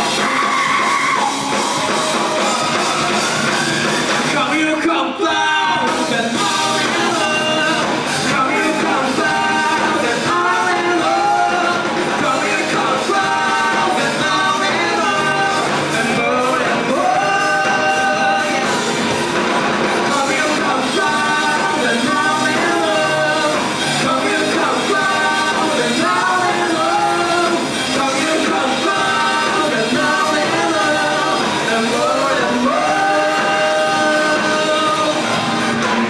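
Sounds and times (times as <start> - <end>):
lead vocalist singing: 0.0 - 36.0
live rock band playing: 0.0 - 36.0.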